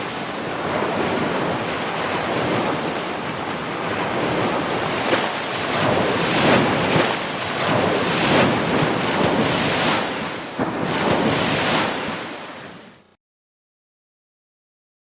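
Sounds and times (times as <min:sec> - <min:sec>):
ocean surf washing: 0:00.0 - 0:13.1.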